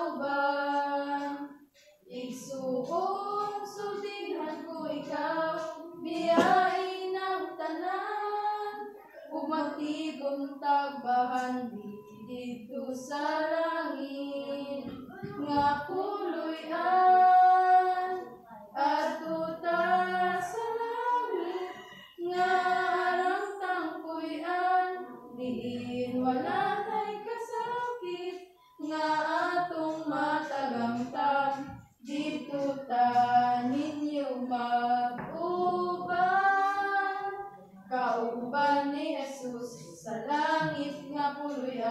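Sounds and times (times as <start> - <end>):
women singing a hymn: 0.0 - 41.9.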